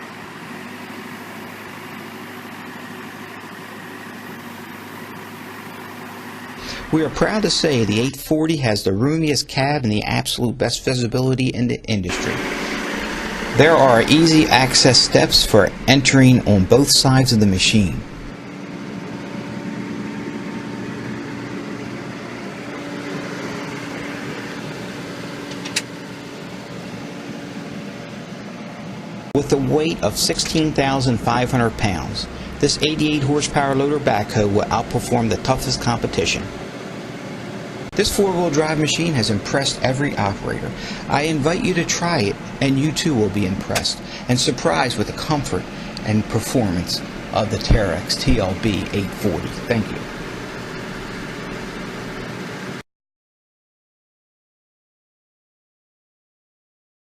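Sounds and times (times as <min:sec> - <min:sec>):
diesel engine running: 0:00.0 - 0:10.2, 0:12.1 - 0:52.8.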